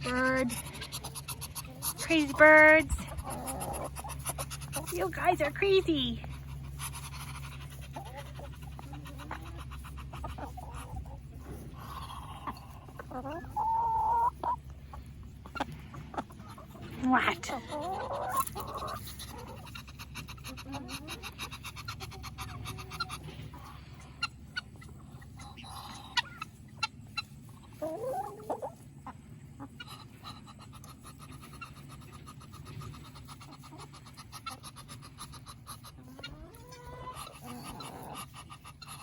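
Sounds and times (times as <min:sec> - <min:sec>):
chickens clucking: 0:00.0 - 0:39.0
steady low hum: 0:00.0 - 0:39.0.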